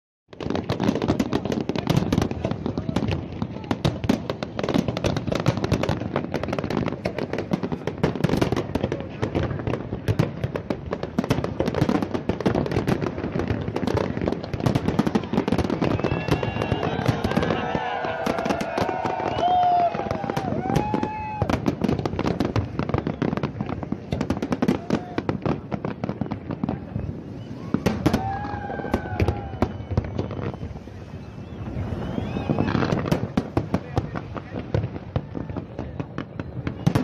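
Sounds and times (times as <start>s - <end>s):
fireworks bangs and crackling: 0.3s - 37.0s.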